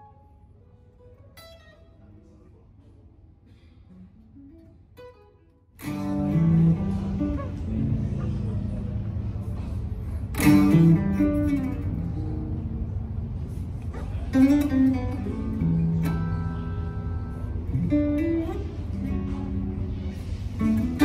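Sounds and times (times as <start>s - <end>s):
electric guitar playing: 0.0s - 2.0s, 4.0s - 21.0s.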